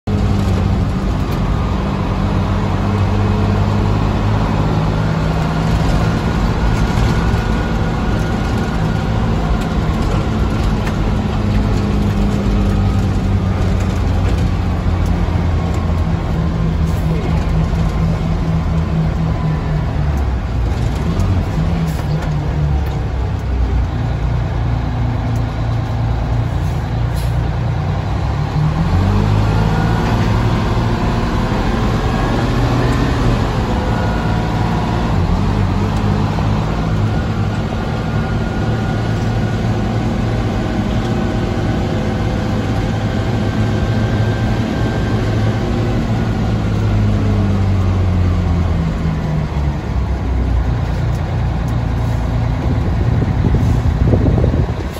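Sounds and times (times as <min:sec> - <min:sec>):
truck engine running from cab: 0:00.0 - 0:54.9.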